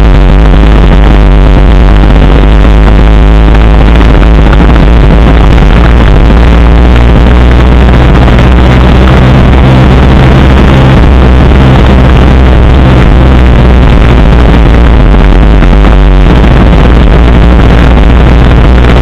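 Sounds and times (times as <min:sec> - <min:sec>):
motorcycle engine running: 0:00.0 - 0:19.0
wind noise on microphone: 0:00.0 - 0:19.0.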